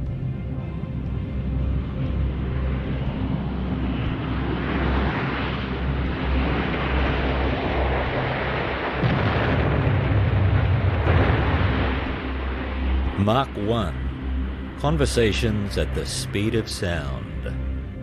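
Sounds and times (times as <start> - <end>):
deep rumble: 0.0 - 18.0
jet aircraft roar: 0.0 - 18.0.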